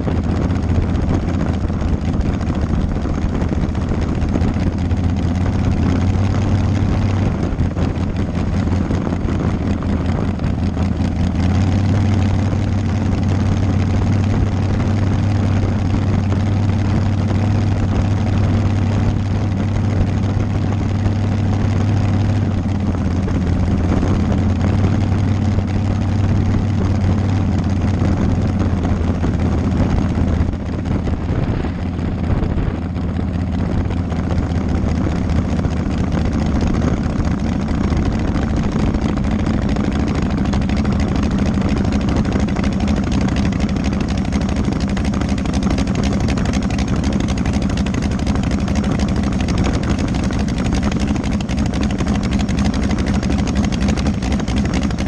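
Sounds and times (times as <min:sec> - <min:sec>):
dragster engine low drone: 0:00.0 - 0:55.0.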